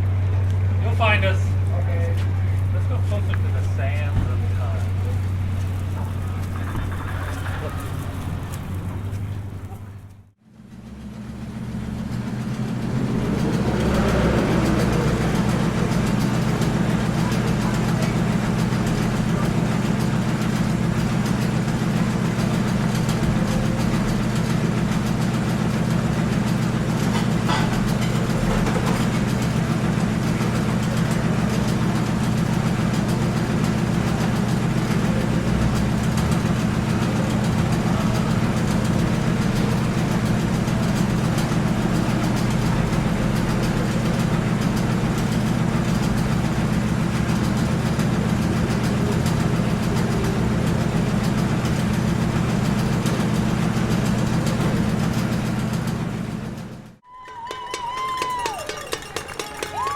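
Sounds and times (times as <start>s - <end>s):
heavy engine idling: 0.0s - 57.1s.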